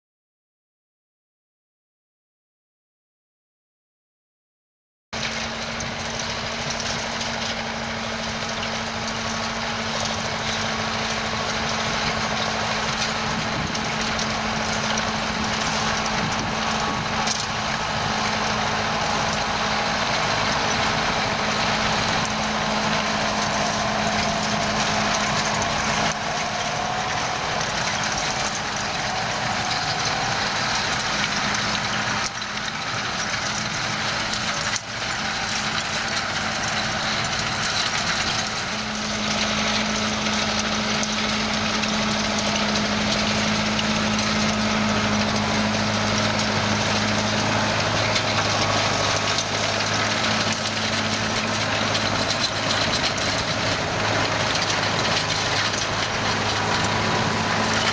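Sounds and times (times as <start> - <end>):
constant mechanical hum: 5.2 - 57.9
diesel farm machinery running: 5.2 - 57.9.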